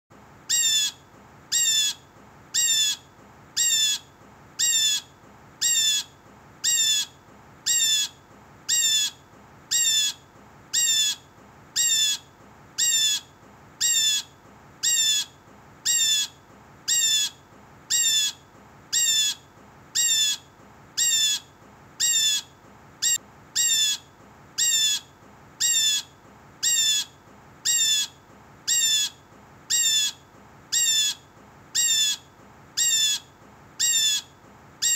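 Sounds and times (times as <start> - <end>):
blue jay harsh call: 0.5 - 2.0, 2.6 - 11.2, 11.8 - 19.4, 20.0 - 20.4, 21.0 - 31.2, 31.8 - 32.2, 32.8 - 34.9.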